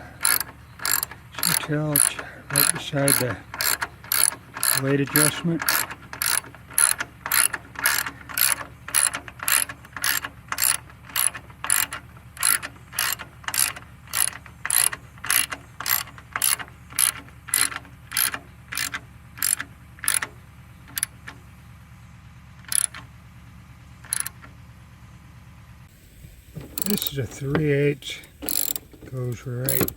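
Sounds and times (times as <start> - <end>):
ratchet wrench clicking: 0.0 - 20.3, 20.9 - 21.3, 22.6 - 23.1, 24.0 - 24.5, 26.7 - 29.9.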